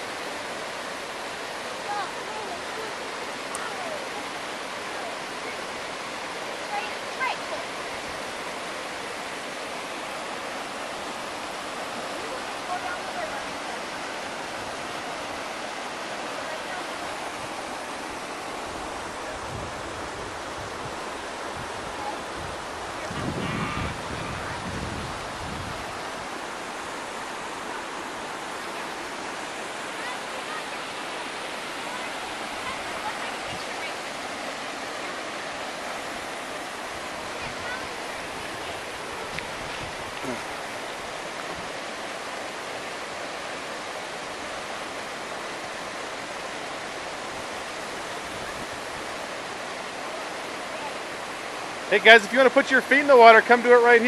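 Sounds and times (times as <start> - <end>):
creek rapids rushing: 0.0 - 54.0.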